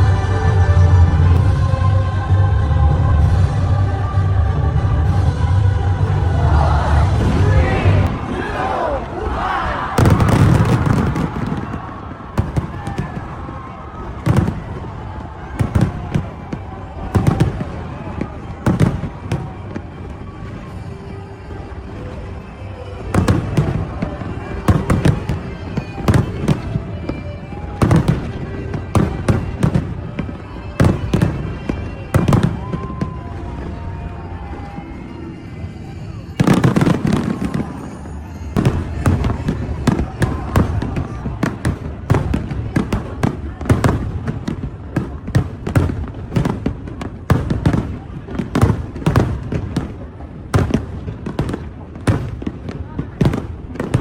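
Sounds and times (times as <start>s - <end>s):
fireworks crackling: 3.0s - 54.0s.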